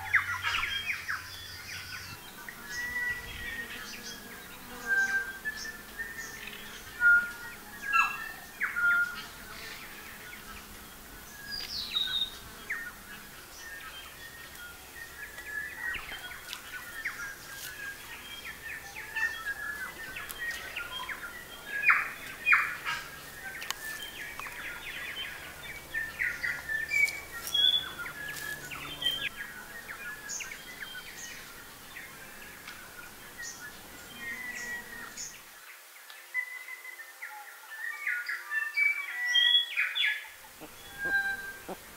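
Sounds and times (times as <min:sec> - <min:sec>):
birds chirping and whistling: 0:00.0 - 0:35.4, 0:37.9 - 0:41.9.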